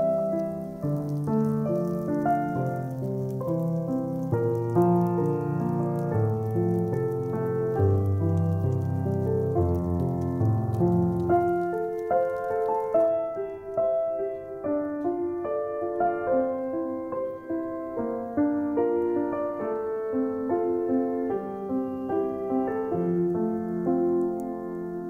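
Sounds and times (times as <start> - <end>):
slow piano music: 0.0 - 25.0.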